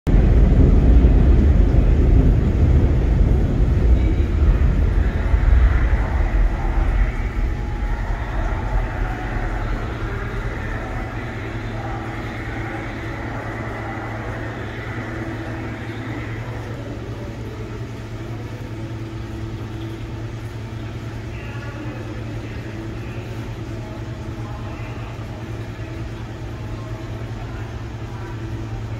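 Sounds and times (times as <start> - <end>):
steady low hum: 0.0 - 28.9
subway train rumble: 0.0 - 28.9.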